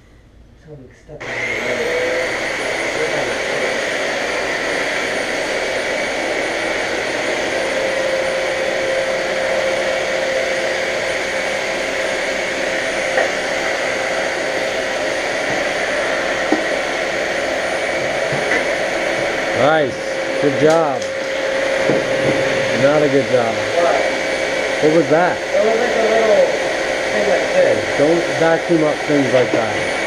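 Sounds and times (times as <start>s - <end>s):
vacuum cleaner whining: 1.2s - 30.0s.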